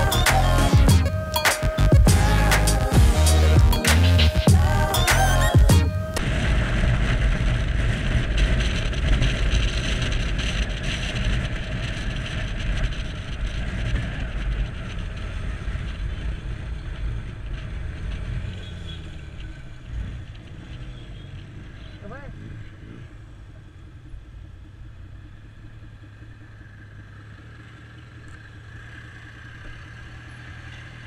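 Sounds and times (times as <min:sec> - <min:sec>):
motorcycle engine: 0:00.0 - 0:31.0
road noise: 0:00.0 - 0:31.0.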